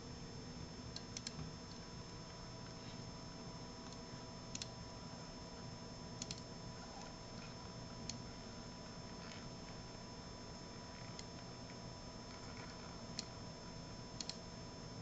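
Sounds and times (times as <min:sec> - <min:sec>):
faint computer hum: 0:00.0 - 0:15.0.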